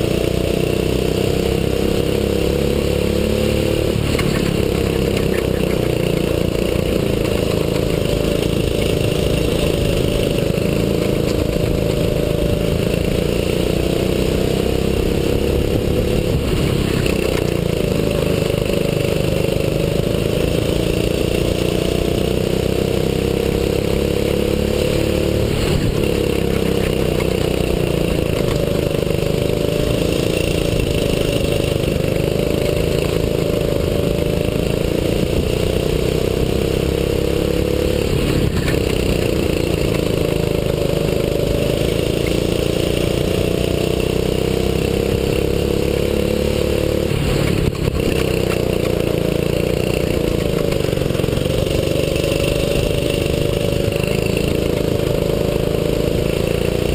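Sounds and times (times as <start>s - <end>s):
kart engine revving: 0.0s - 56.9s.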